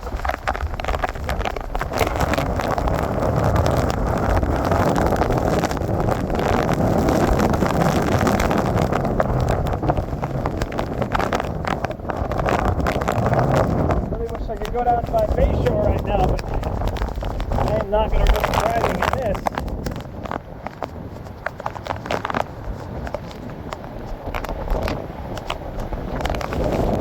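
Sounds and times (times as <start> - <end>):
wind and rain buffeting microphone: 0.0 - 27.0.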